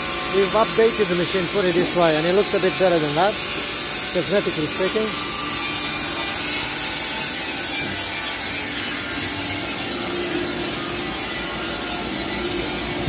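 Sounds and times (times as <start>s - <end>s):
band saw sawing log: 0.0s - 13.0s.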